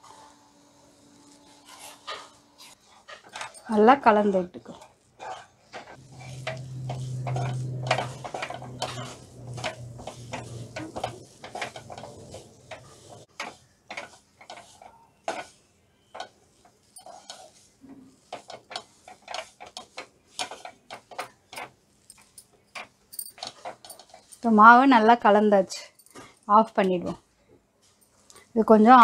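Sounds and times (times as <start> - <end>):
wooden spatula scraping a pan: 1.4 - 24.9.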